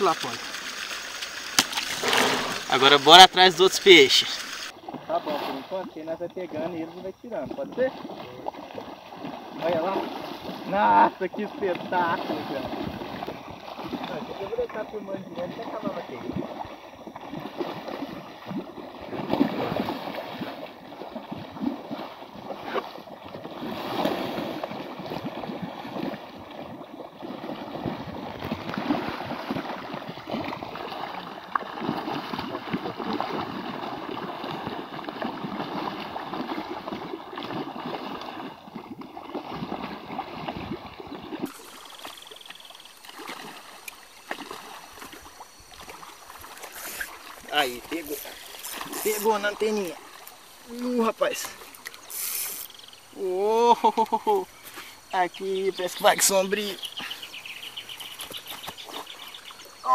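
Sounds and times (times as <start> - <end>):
fish thrashing and slapping water: 0.0 - 59.9
steady lake water sound: 0.0 - 59.9.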